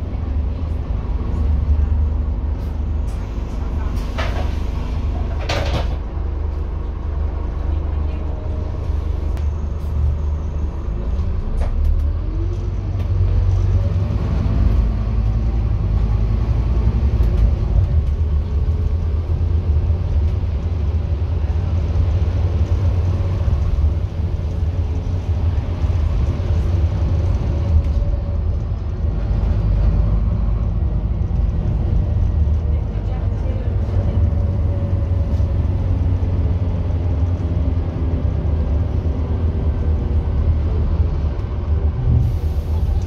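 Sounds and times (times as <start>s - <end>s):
bus diesel engine drone: 0.0s - 43.0s
road rumble: 0.0s - 43.0s.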